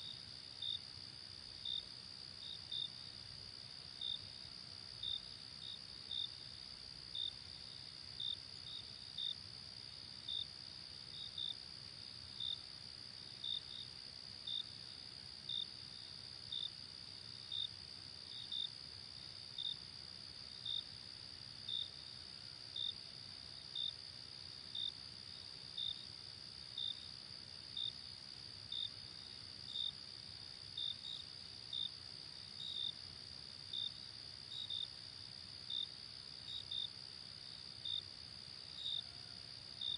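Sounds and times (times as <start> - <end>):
cricket chirp: 0.0 - 39.9.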